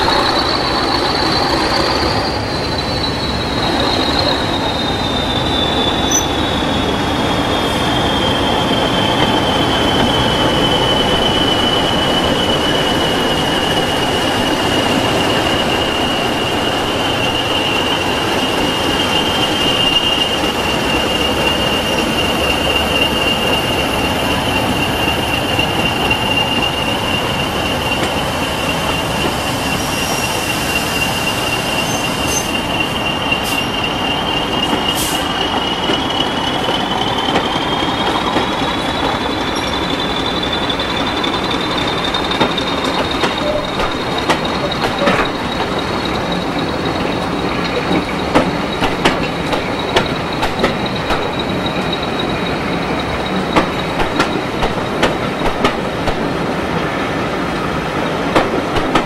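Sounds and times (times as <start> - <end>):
locomotive engine and wheel rumble: 0.0 - 59.0.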